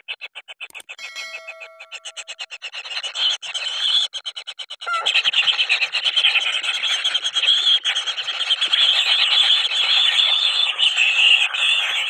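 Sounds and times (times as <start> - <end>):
chicks begging calls: 0.0 - 12.0.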